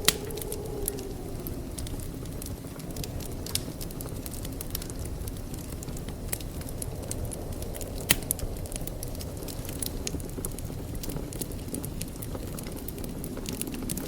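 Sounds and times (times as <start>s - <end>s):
fire crackles and pops: 0.0s - 14.0s
fire flames rumbling: 0.0s - 14.0s.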